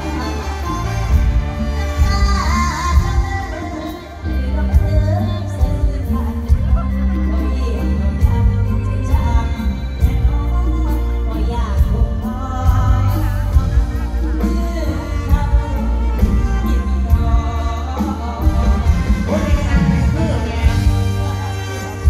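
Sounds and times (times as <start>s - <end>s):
live band music with heavy bass: 0.0s - 22.0s
woman singing: 0.0s - 22.0s.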